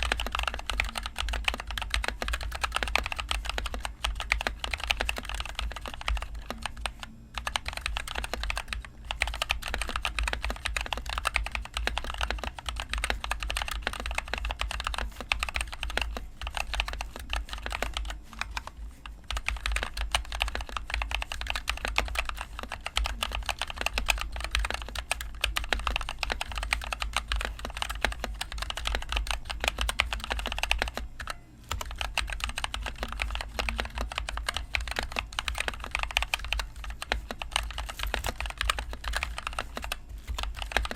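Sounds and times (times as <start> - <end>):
fast mechanical keyboard typing: 0.0 - 40.9
low steady hum: 0.0 - 40.9.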